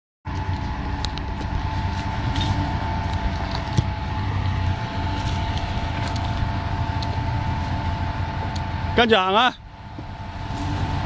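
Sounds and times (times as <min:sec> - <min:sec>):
off-road vehicle engine running: 0:00.2 - 0:11.0
thin steady whine: 0:00.3 - 0:11.0.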